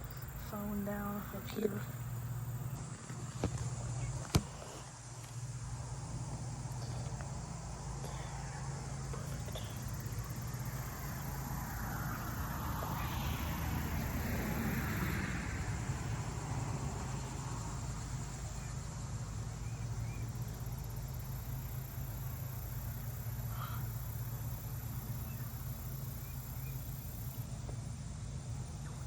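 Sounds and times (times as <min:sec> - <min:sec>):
insects: 0:00.0 - 0:29.0.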